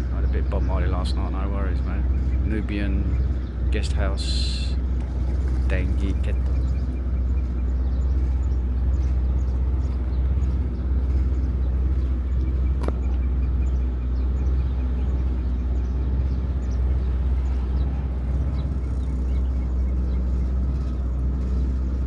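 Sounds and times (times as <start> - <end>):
motorboat engine droning: 0.0 - 22.0.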